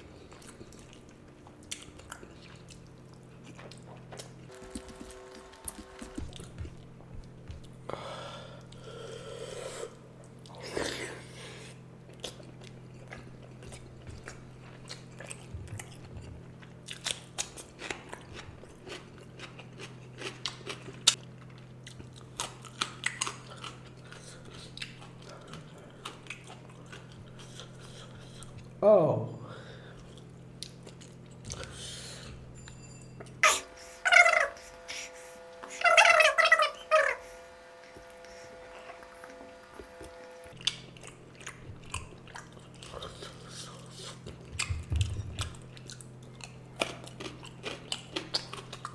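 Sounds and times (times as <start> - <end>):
person chewing food: 0.0 - 28.8, 29.9 - 32.5, 37.8 - 48.9
steady low hum: 0.0 - 48.9.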